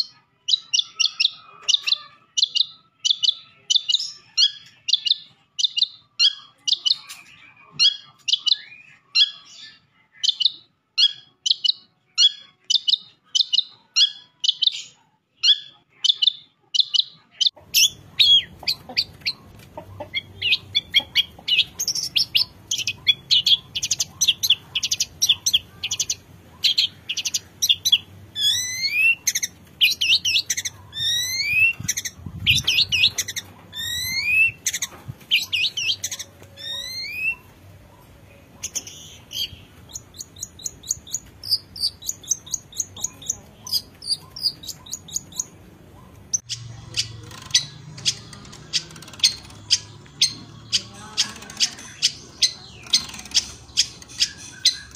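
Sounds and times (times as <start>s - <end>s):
bird chattering song: 0.0s - 54.9s.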